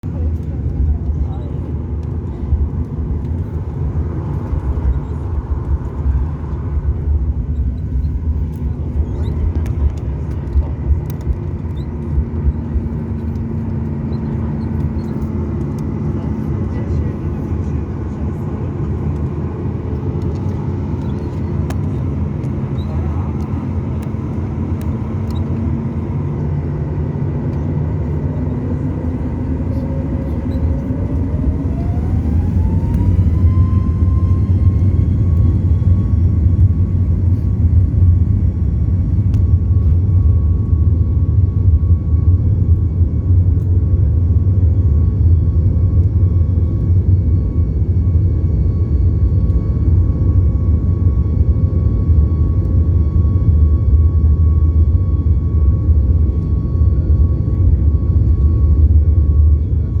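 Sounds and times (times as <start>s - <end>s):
jet engine low rumble: 0.0s - 60.0s
jet engine whine: 0.0s - 60.0s.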